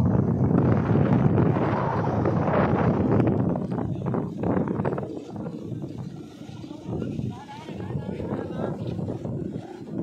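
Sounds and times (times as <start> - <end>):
gusty wind buffeting microphone: 0.0 - 10.0.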